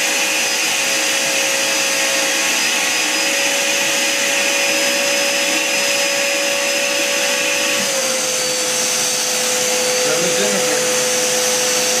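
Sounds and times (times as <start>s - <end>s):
vacuum cleaner humming: 0.0s - 12.0s.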